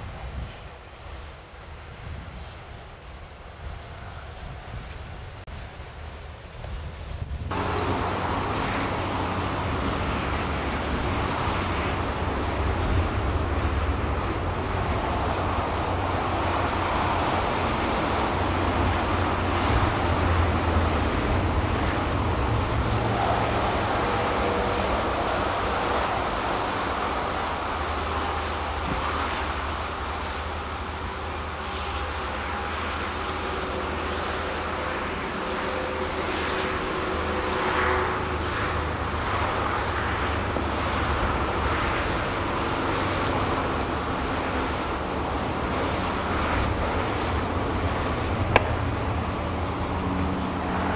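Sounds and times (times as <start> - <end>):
low rumble of distant vehicles: 0.0 - 50.9.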